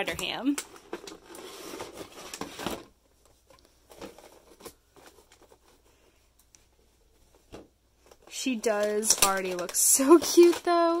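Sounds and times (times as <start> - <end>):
cardboard packaging rustling: 0.0 - 6.1, 6.7 - 11.0.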